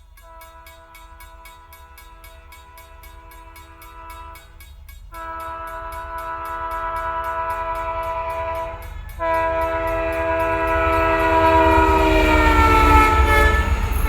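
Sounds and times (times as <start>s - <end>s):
fast high ticking: 0.0s - 14.0s
multi-chime train horn: 0.0s - 14.0s.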